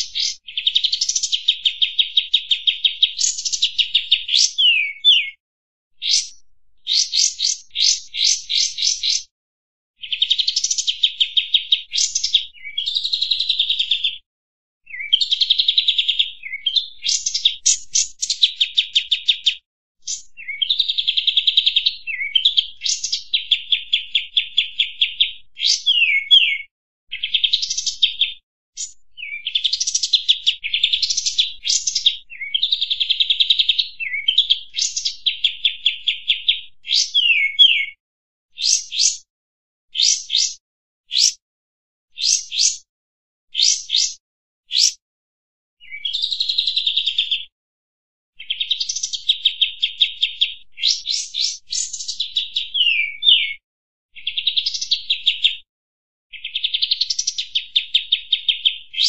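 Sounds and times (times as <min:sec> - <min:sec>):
bird singing trills and whistles: 0:00.0 - 0:05.4, 0:06.0 - 0:09.3, 0:10.0 - 0:14.2, 0:14.9 - 0:38.0, 0:38.6 - 0:39.3, 0:40.0 - 0:41.4, 0:42.1 - 0:42.9, 0:43.5 - 0:45.0, 0:45.8 - 0:47.4, 0:48.4 - 0:53.6, 0:54.2 - 0:55.6, 0:56.3 - 0:59.0.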